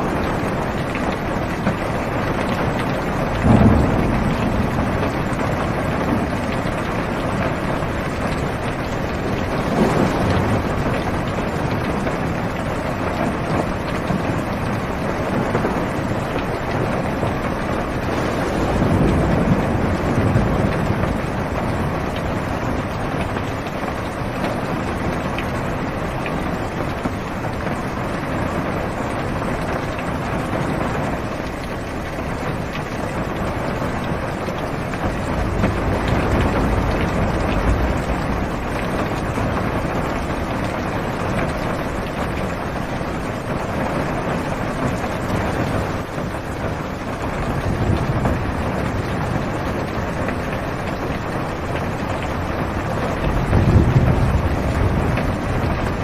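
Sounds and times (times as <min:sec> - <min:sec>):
heavy rain on car roof: 0:00.0 - 0:56.0
low rolls of thunder: 0:00.0 - 0:56.0.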